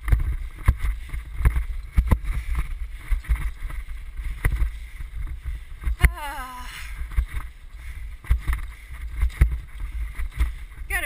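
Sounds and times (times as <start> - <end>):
sled rig rumbling and clattering: 0.0 - 11.0
wind buffeting microphone: 0.0 - 11.0.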